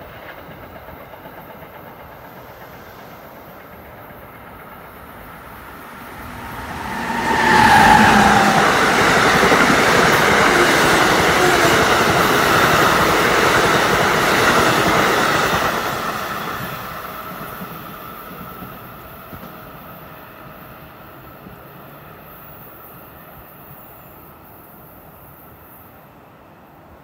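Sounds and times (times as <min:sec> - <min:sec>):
train wheels rushing on rails: 0:00.0 - 0:25.9.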